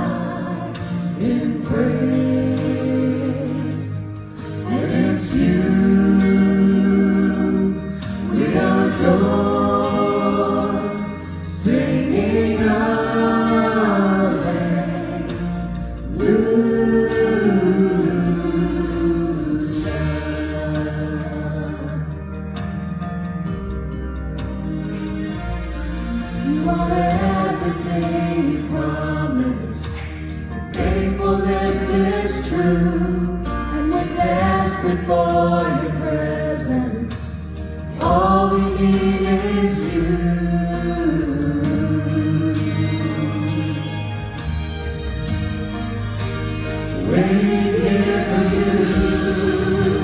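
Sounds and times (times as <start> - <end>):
vocal ensemble singing in harmony: 0.0 - 23.4, 25.2 - 50.0
sustained low accompaniment: 0.0 - 50.0.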